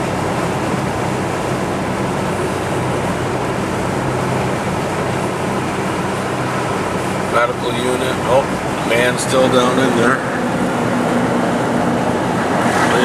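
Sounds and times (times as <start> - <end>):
heater fan blowing: 0.0 - 13.0
road noise: 0.0 - 13.0
truck engine hum: 0.0 - 13.0.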